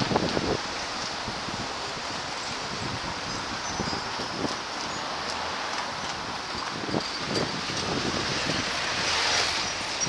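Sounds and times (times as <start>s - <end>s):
steady outdoor hiss: 0.0s - 10.0s
wind buffeting microphone: 0.0s - 10.0s.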